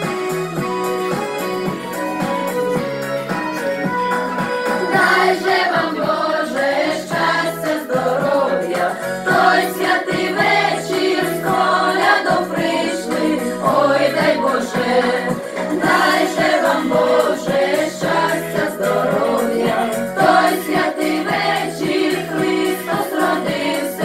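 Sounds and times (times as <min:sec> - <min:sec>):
instrumental backing: 0:00.0 - 0:24.0
group singing a carol: 0:04.8 - 0:24.0.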